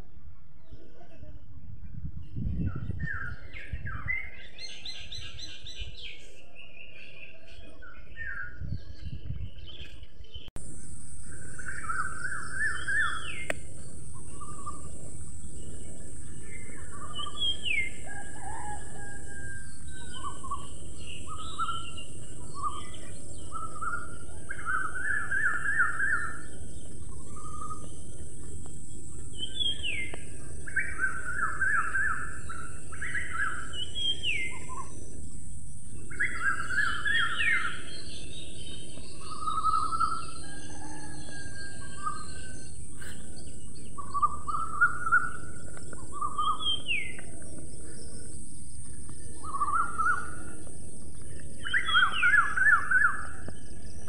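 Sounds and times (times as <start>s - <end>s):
birds chirping and trilling: 0.0s - 54.0s
steady background hiss: 10.3s - 54.0s.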